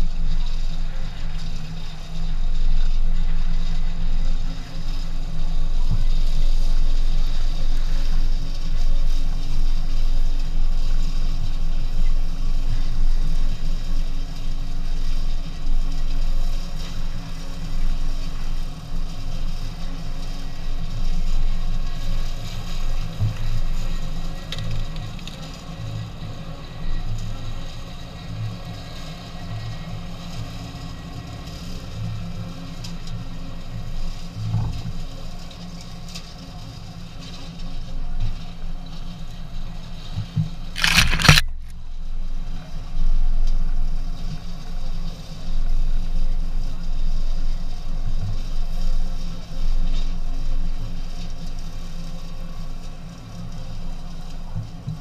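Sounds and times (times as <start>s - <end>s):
vehicle engine noise: 0.0s - 55.0s.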